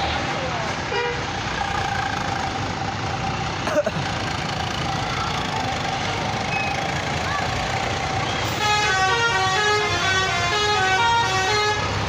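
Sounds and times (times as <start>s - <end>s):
bus engine running: 0.0s - 12.0s
street noise: 0.0s - 12.0s.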